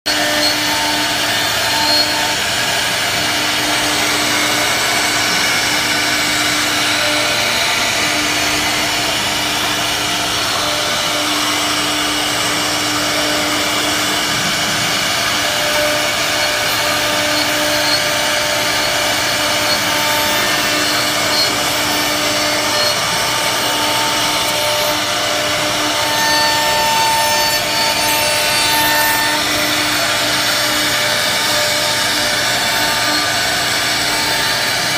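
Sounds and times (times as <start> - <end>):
router spindle cutting wood: 0.0 - 34.9.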